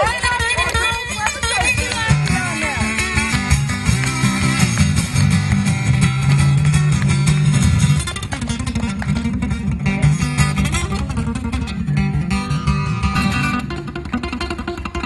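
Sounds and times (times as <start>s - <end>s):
bass line: 0.0s - 15.0s
strummed guitar music: 0.0s - 15.0s.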